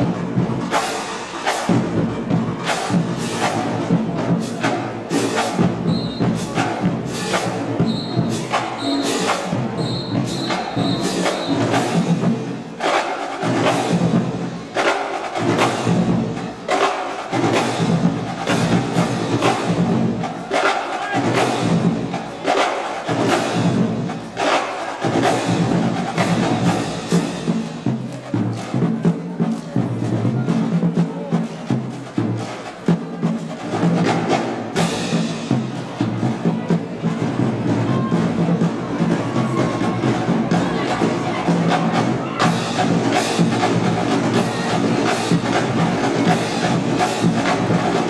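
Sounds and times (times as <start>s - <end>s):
marching band playing: 0.0s - 48.0s.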